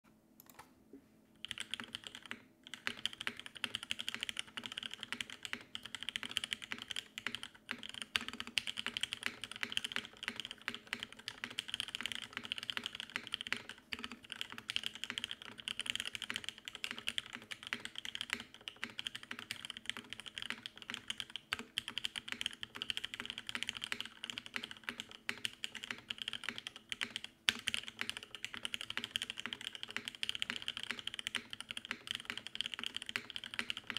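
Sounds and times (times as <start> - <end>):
fast typing on mechanical keyboard: 1.4 - 33.9.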